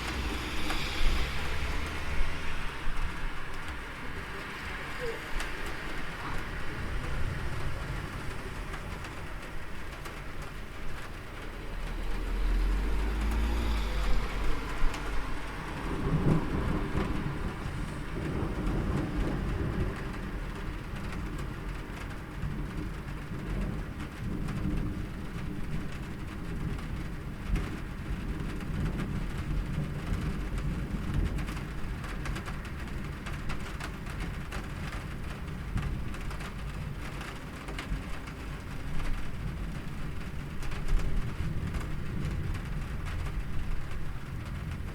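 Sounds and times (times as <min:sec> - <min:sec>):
steady rain: 0:00.0 - 0:44.9
thunder rumbling: 0:00.0 - 0:44.9.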